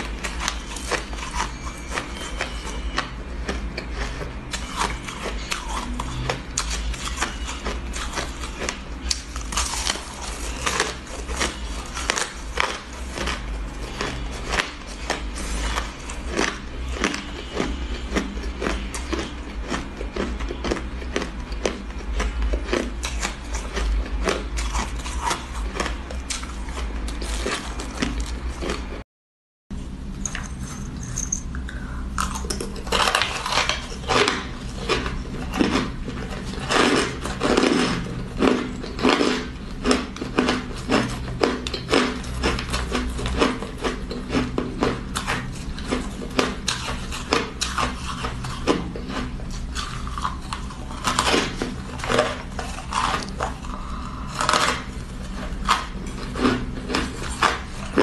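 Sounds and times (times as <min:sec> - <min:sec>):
ice being chewed: 0:00.0 - 0:29.0, 0:30.2 - 0:58.0.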